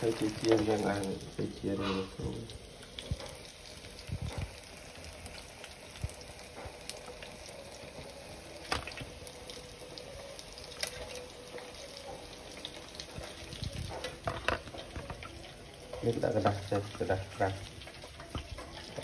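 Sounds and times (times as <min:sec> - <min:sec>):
deep-frying sizzle with pops: 0:00.0 - 0:19.0.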